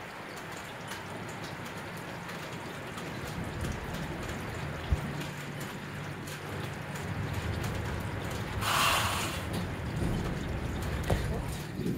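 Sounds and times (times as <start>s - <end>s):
steady rainfall: 0.0s - 11.9s.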